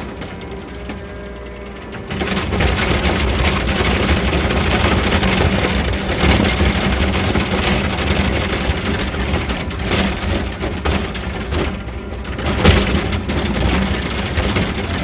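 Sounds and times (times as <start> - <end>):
engine revving with clatter: 0.0 - 15.0.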